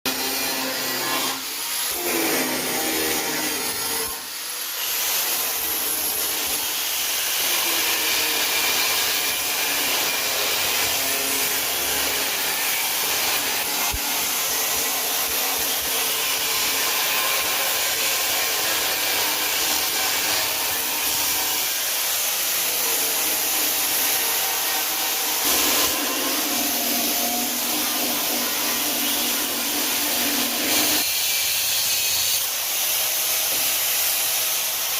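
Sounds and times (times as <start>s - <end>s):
angle grinder on metal: 0.0s - 34.9s.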